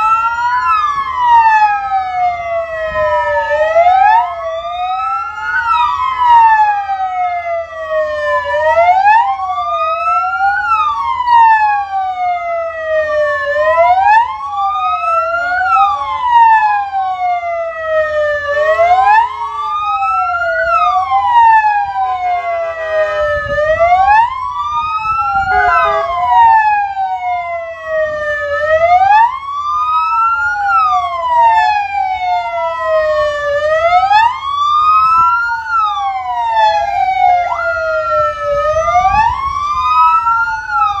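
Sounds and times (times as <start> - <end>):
ambulance sirens wailing: 0.0 - 41.0.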